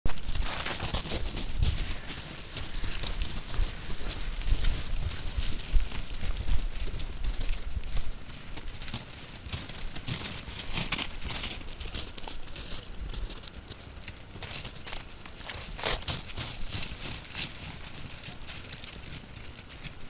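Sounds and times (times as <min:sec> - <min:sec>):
paws crunching on snow: 0:00.1 - 0:20.0.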